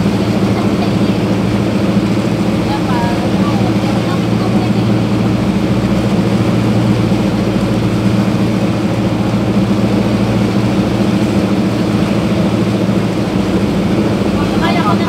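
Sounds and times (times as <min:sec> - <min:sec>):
boat engine running: 0:00.0 - 0:15.0
rush of wind and water: 0:00.0 - 0:15.0.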